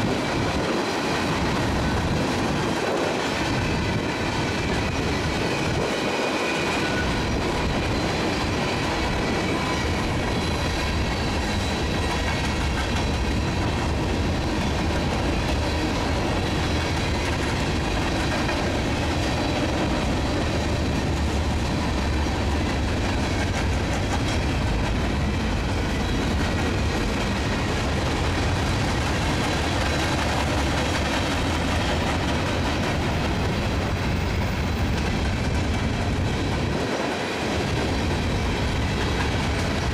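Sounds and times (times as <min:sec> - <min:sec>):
freight train wheels rumbling on rails: 0:00.0 - 0:39.9.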